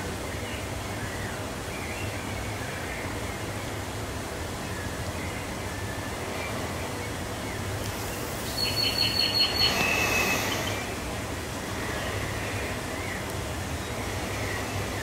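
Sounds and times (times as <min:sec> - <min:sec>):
outdoor city background noise: 0:00.0 - 0:15.0.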